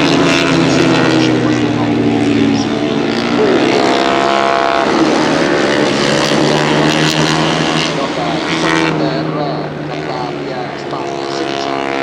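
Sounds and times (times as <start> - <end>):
motorcycles passing at high revs: 0.0 - 12.0.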